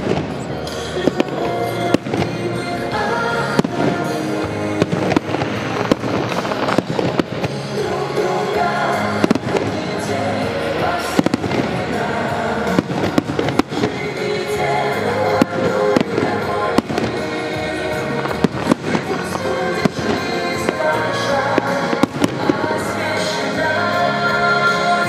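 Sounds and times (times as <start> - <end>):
fireworks bursting with crackle: 0.0 - 25.0
music: 0.0 - 25.0.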